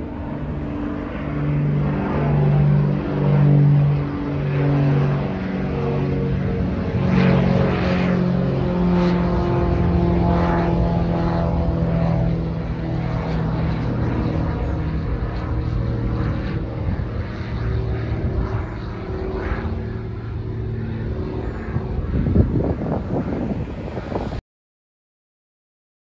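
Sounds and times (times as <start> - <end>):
propeller plane droning overhead: 0.0 - 24.4.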